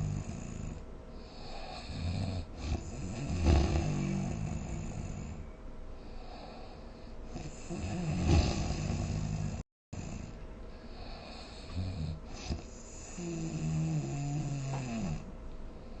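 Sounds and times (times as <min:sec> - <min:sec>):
person snoring: 0:00.0 - 0:05.4, 0:06.2 - 0:15.3.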